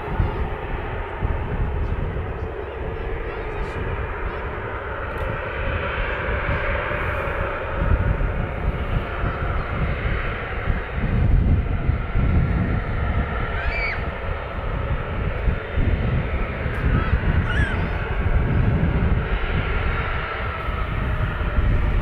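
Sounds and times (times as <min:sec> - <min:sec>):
jet airliner engine roar: 0:00.0 - 0:22.0.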